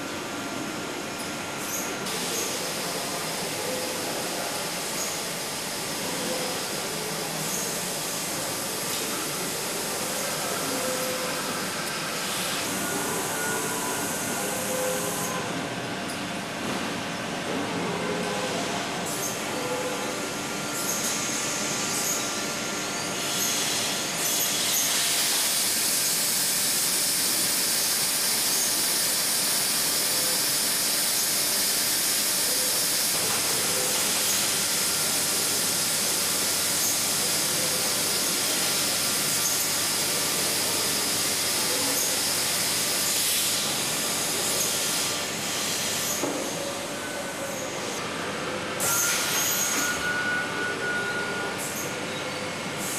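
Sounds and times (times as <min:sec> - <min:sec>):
factory machinery running: 0:00.0 - 0:52.9.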